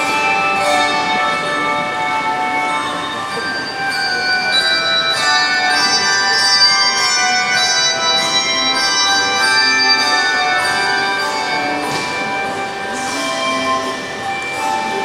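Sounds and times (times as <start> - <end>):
handbell choir ringing: 0.0 - 15.0.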